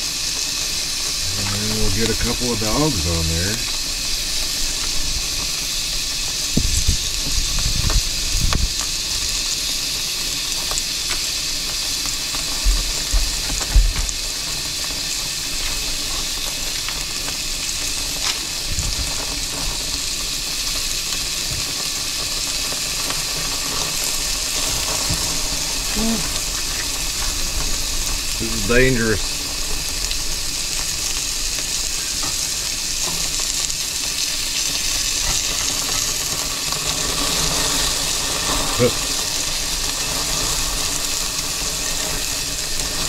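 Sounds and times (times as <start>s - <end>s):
bacon and hot dogs sizzling on grill: 0.0s - 43.0s.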